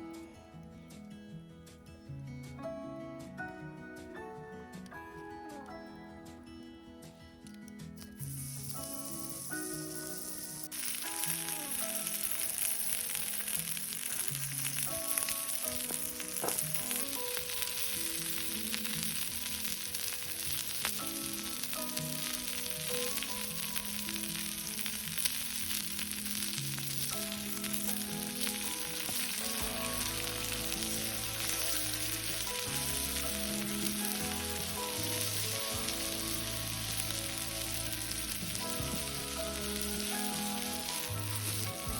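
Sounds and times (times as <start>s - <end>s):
gentle background music: 0.0s - 41.9s
food frying in a pan: 8.1s - 41.9s.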